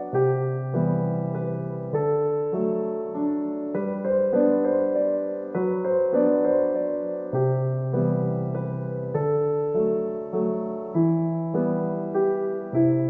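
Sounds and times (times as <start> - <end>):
solo piano piece: 0.0 - 13.0.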